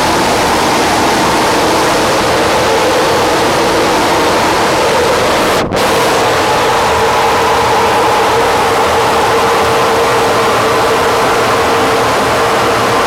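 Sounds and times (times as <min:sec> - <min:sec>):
faint steady tones: 0:00.0 - 0:13.0
loud rushing noise: 0:00.0 - 0:13.0.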